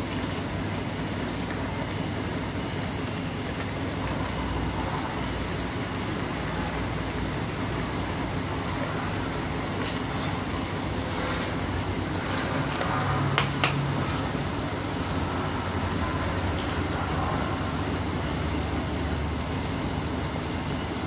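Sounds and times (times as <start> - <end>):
broth simmering in a pot: 0.0 - 21.0.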